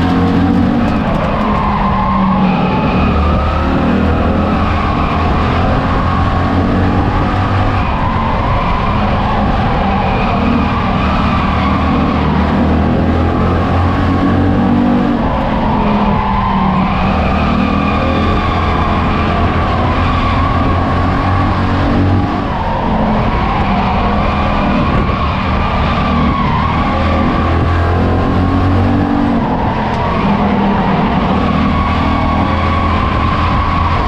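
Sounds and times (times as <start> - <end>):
other race cars passing: 0.0 - 34.0
race car engine from cockpit: 0.0 - 34.0.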